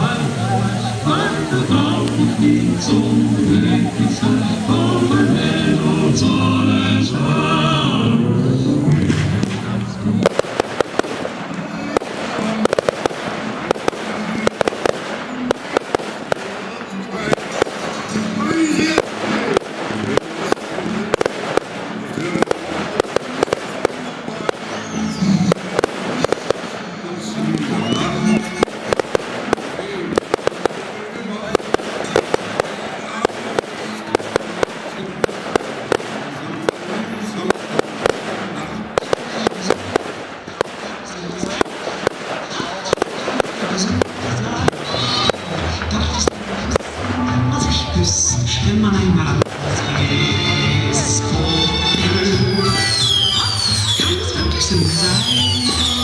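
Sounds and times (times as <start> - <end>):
crackling hiss of fireworks: 0.0 - 56.0
firework bangs: 8.8 - 56.0.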